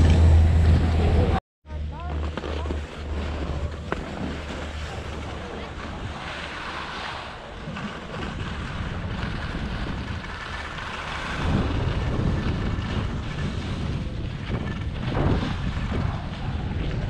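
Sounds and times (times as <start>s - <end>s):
wind buffeting microphone: 2.2s - 17.0s
skis scraping over snow: 2.3s - 17.0s.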